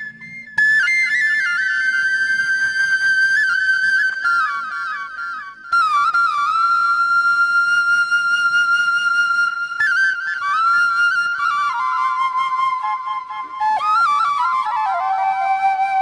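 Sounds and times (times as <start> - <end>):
slow flute melody: 0.0 - 16.0.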